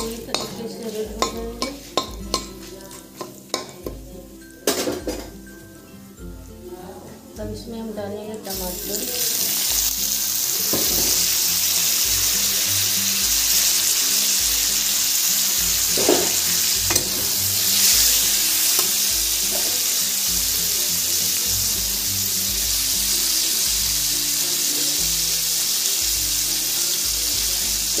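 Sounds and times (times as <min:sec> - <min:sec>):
tomatoes sizzling in hot oil: 0:00.0 - 0:05.8, 0:08.4 - 0:28.0.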